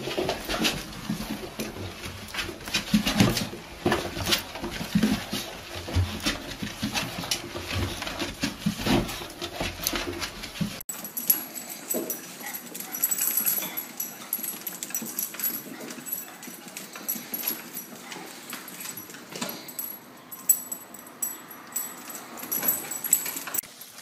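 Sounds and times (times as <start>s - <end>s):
dog paws scrabbling on floor: 0.0s - 20.0s.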